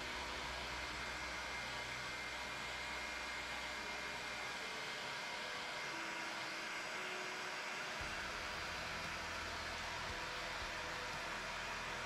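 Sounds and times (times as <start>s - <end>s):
heat gun blowing with hiss: 0.0s - 12.0s.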